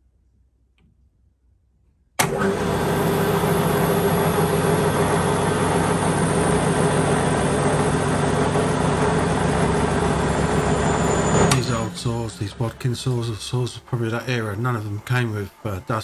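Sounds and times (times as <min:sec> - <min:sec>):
table saw motor humming: 0:02.2 - 0:16.0.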